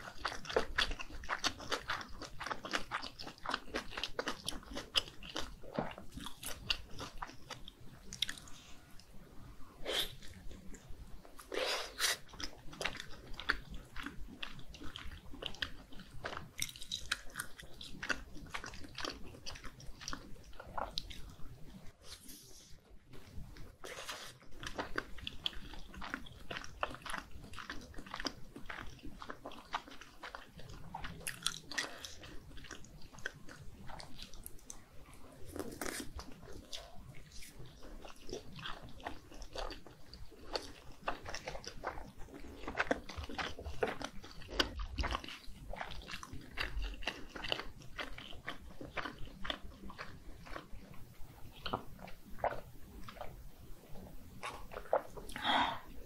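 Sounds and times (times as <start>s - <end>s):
biting and chewing: 0.0s - 8.6s, 12.2s - 22.3s, 23.2s - 55.7s.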